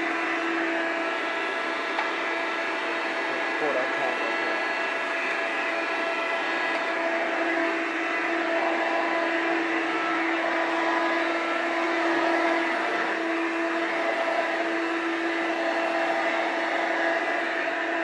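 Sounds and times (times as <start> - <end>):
upright vacuum cleaner running: 0.0 - 18.0.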